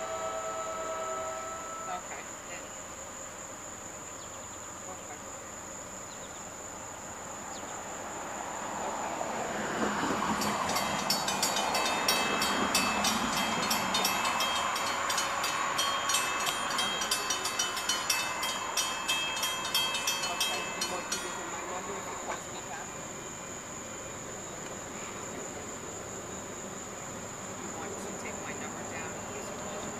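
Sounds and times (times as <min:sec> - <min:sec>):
train rolling past: 0:00.0 - 0:02.8, 0:07.4 - 0:29.9
insects whining: 0:00.0 - 0:29.9.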